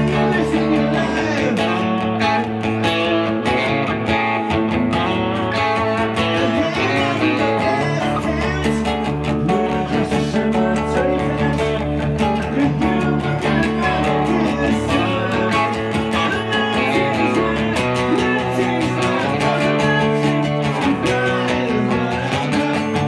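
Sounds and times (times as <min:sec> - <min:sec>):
live band music: 0:00.0 - 0:23.0
strummed guitar: 0:00.0 - 0:23.0.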